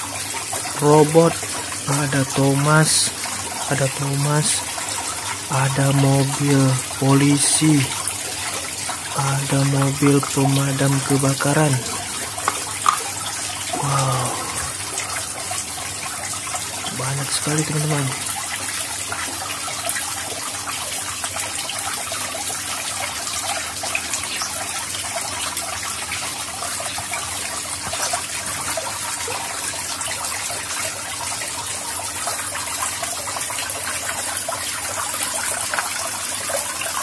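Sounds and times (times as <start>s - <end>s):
fountain water pouring and splashing: 0.0s - 37.0s.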